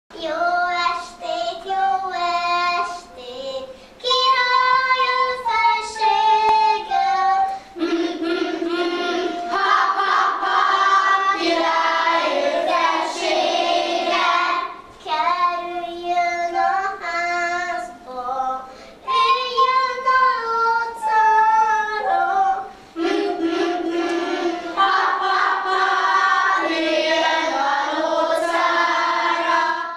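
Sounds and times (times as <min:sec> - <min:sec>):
children singing: 0:00.2 - 0:29.9.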